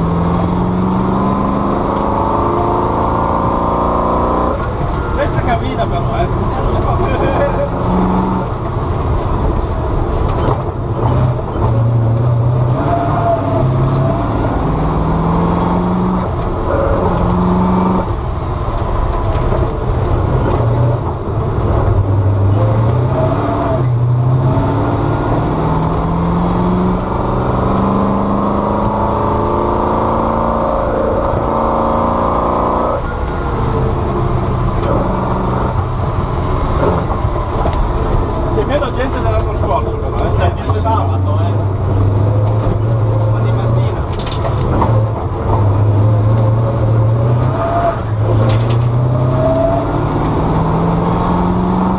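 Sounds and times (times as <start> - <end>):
car engine revving hard: 0.0 - 8.6, 10.4 - 18.2, 20.2 - 37.4, 40.3 - 51.9.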